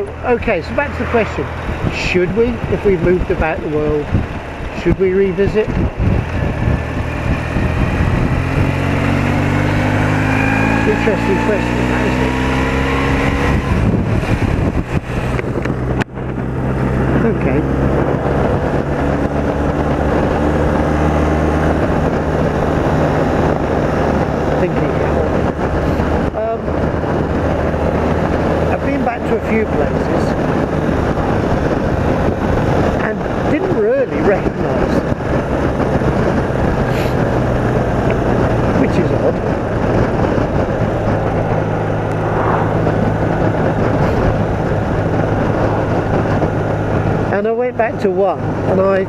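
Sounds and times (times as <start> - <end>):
motorcycle engine running: 0.0 - 49.0
wind and road noise: 0.0 - 49.0.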